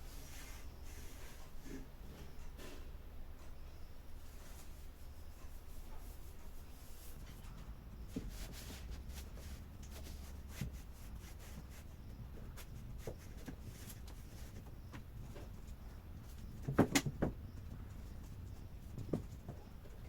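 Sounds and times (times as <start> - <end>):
faint rustling: 0.0 - 16.6
low steady hum: 0.0 - 20.0.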